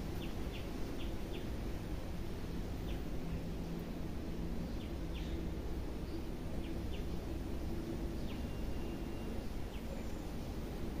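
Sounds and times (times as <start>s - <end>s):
small birds chirping: 0.0s - 1.7s, 2.4s - 11.0s.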